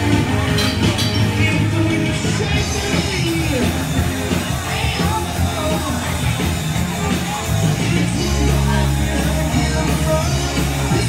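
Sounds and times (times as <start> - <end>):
bass: 0.0 - 11.0
guitar: 0.0 - 11.0
person singing: 0.0 - 11.0.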